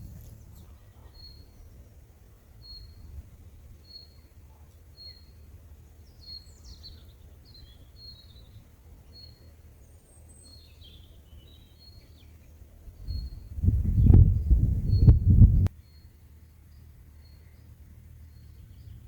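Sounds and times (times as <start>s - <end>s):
birds twittering: 0.0s - 3.2s, 3.8s - 19.0s
faint low background rumble: 0.0s - 19.0s.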